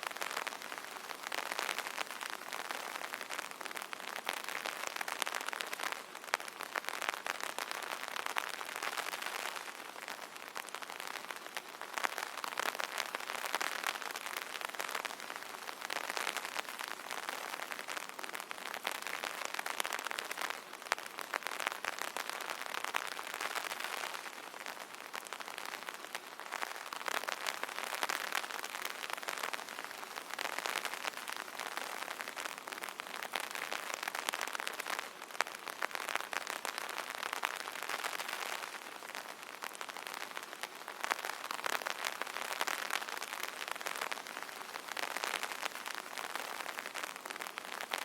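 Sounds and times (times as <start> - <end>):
rain falling on an umbrella: 0.0 - 48.0.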